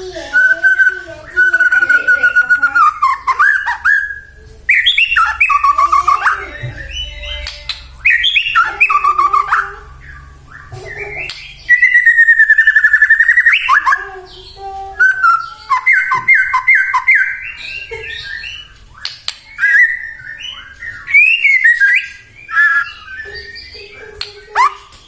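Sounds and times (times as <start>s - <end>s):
bird singing varied song: 0.0s - 25.0s.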